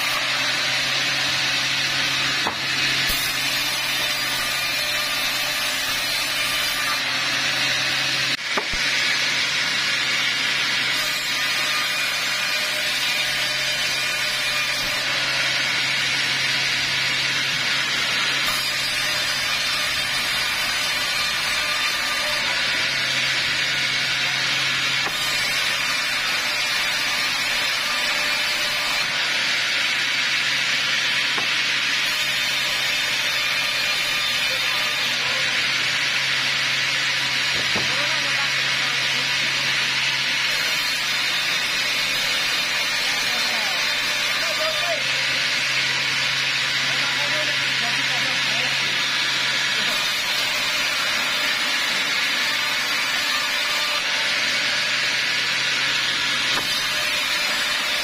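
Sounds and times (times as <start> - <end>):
band saw blade rasping wood: 0.0 - 9.6, 10.2 - 58.0.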